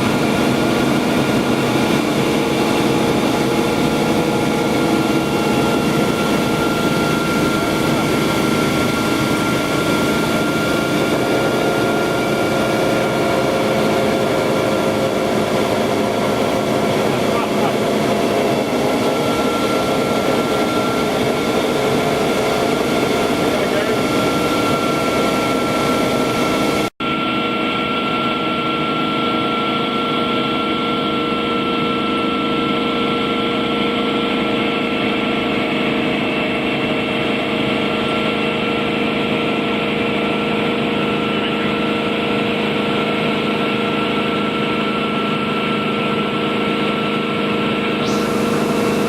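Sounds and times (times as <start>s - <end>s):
helicopter engine and rotor drone: 0.0s - 49.0s.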